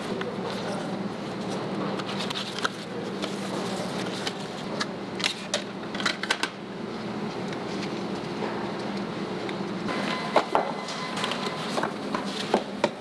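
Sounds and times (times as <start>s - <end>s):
low factory hum: 0.0s - 13.0s.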